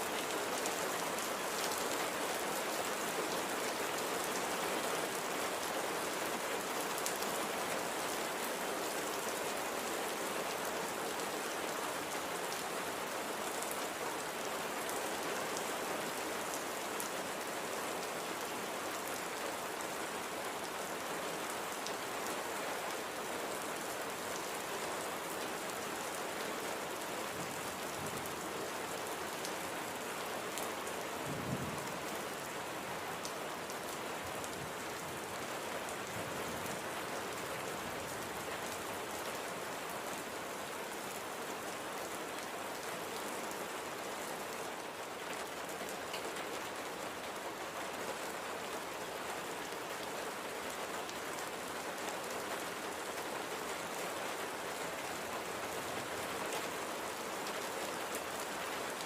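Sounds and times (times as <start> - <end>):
light rain falling: 0.0 - 59.0.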